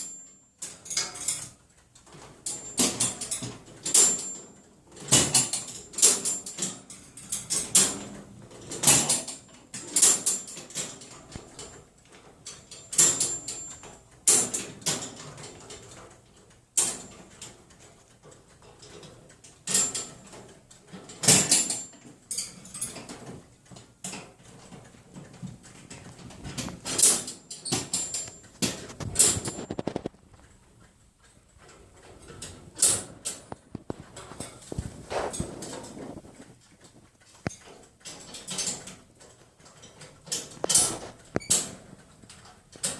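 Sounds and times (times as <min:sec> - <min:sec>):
metal cage doors banging: 0:00.0 - 0:16.2, 0:16.8 - 0:24.8, 0:25.9 - 0:29.8, 0:32.0 - 0:36.3, 0:37.6 - 0:42.9
cage rattling: 0:00.0 - 0:42.9.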